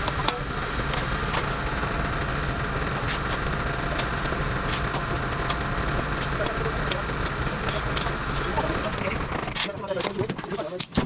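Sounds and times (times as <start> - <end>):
engine low rumble: 0.0 - 10.8.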